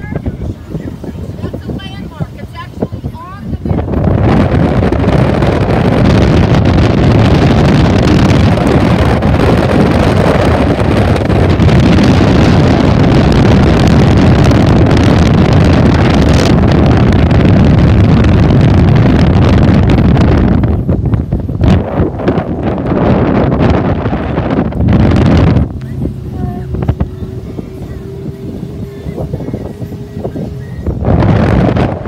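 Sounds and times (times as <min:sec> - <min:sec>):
boat motor hum: 0:00.0 - 0:32.0
wind buffeting microphone: 0:00.0 - 0:32.0.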